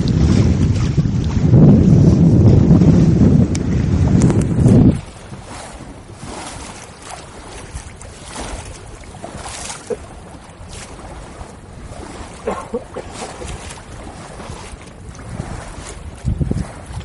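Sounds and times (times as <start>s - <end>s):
water lapping: 0.0s - 17.0s
wind noise on microphone: 0.0s - 17.0s.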